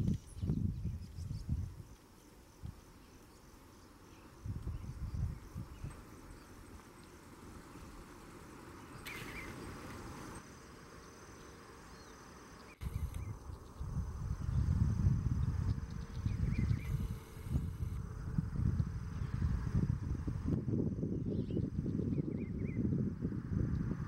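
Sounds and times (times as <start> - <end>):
insects chirring: 0.0 - 22.9.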